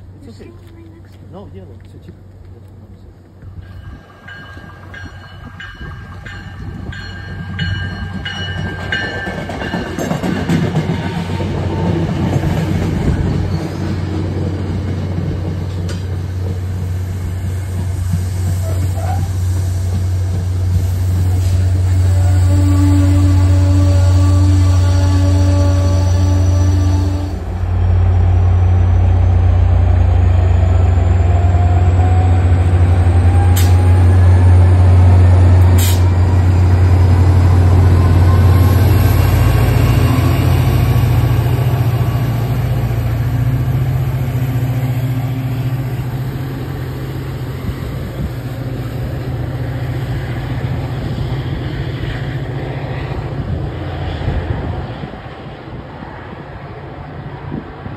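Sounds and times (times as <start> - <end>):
diesel locomotive droning: 0.0 - 57.9.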